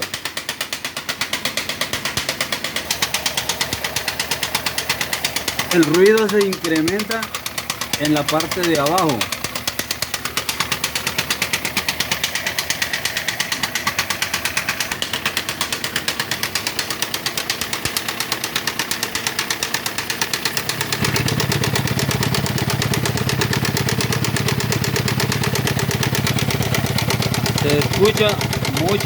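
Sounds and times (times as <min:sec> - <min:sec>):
car engine knocking: 0:00.0 - 0:29.0.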